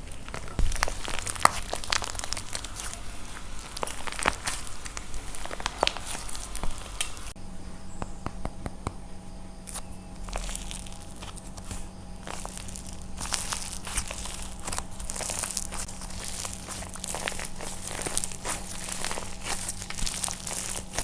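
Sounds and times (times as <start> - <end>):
clay crushed by hand crackling: 0.0 - 9.0, 9.6 - 21.0.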